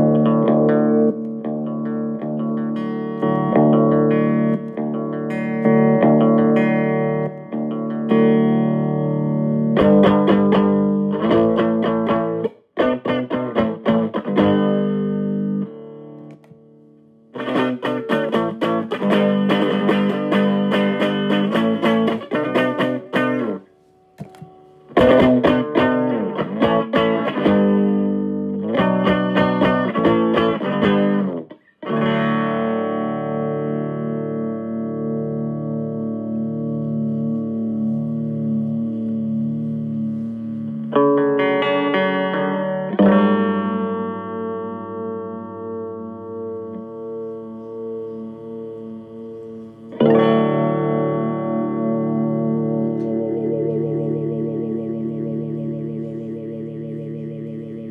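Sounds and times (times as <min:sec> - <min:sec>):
electric guitar with phaser: 0:00.0 - 0:57.9.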